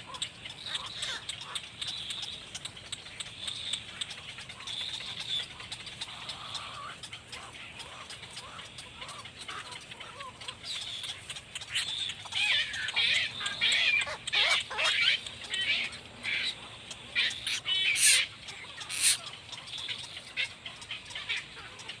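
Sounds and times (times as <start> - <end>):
birds chattering calls: 0.0 - 22.0.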